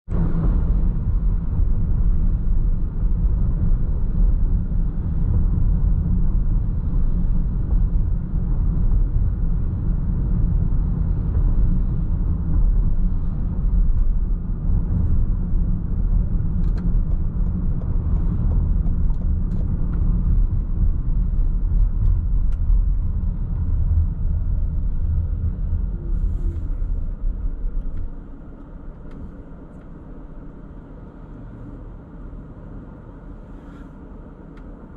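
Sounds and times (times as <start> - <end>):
car driving rumble: 0.0 - 34.9.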